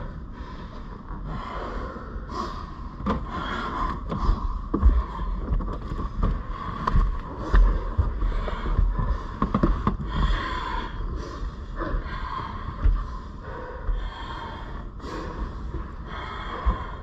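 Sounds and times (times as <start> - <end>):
hard breathing: 0.0 - 17.0
steady background hum: 0.0 - 17.0.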